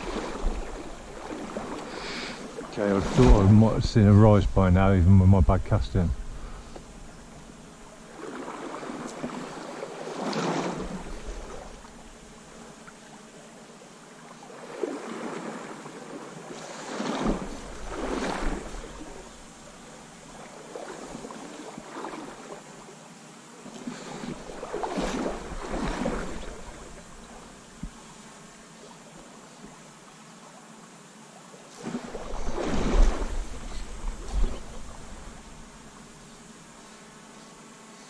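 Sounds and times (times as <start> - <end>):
river water sloshing: 0.0 - 37.9.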